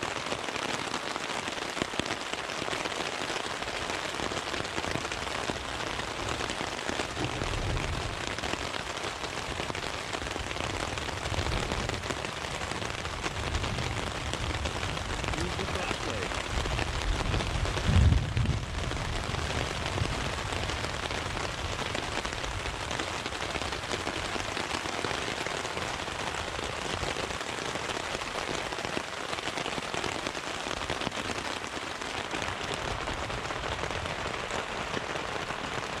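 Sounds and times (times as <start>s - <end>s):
rain falling on a tent: 0.0s - 36.0s.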